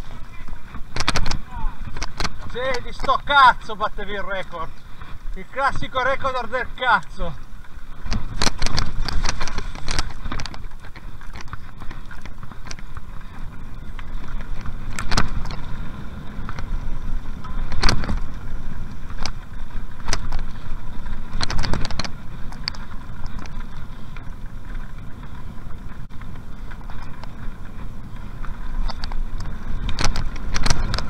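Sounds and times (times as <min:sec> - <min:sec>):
wind on microphone: 0:00.0 - 0:03.4, 0:07.2 - 0:31.0
bike rattling: 0:00.0 - 0:31.0
bike tyres rumbling: 0:00.0 - 0:31.0
wheels knocking on bumps: 0:00.0 - 0:31.0.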